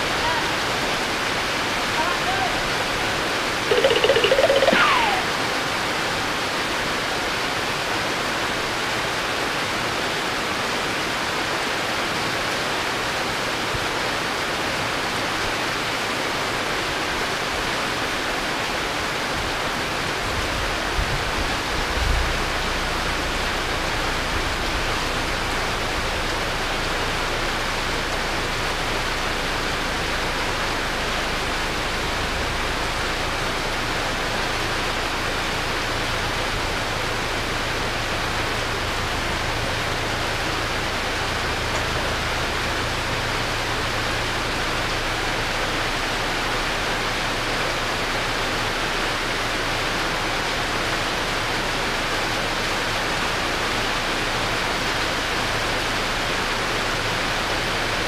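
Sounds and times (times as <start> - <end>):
heavy rain: 0.0 - 3.7, 5.2 - 58.0.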